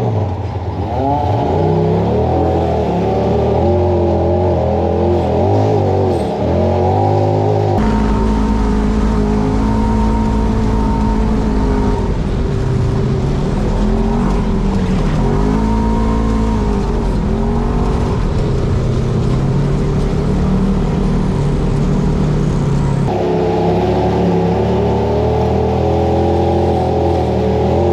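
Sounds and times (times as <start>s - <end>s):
utility vehicle engine revving: 0.0s - 27.9s.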